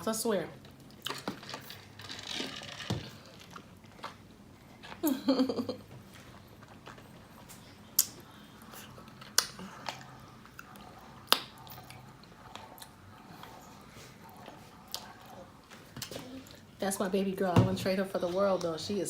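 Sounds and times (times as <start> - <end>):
faint chewing: 0.6 - 5.1, 5.8 - 16.8.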